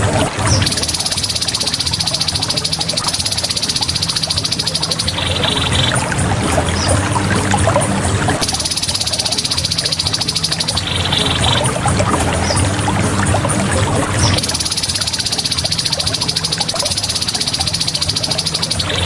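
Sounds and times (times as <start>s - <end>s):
bird rattling trill: 0.0s - 19.0s
low steady hum: 0.0s - 19.0s.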